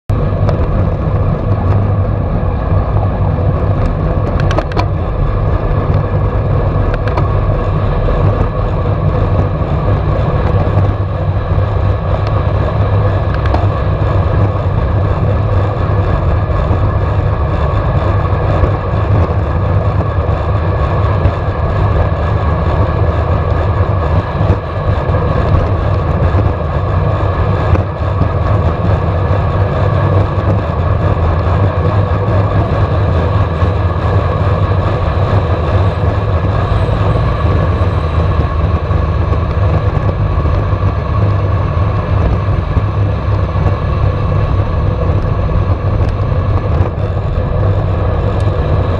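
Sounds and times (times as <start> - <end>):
wind rushing over microphone: 0.0 - 48.9
bicycle tyres rolling on asphalt: 0.1 - 48.9.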